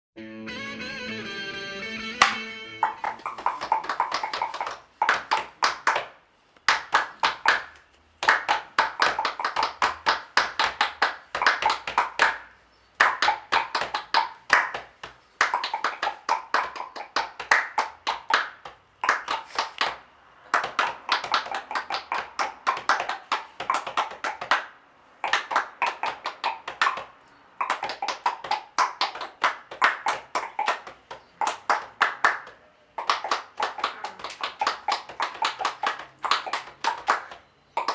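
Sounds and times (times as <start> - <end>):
rhythmic hand claps and taps: 1.0 - 37.9.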